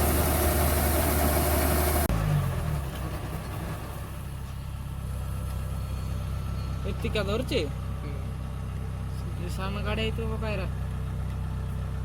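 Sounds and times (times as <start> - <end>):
farm machine engine running: 0.0 - 12.0.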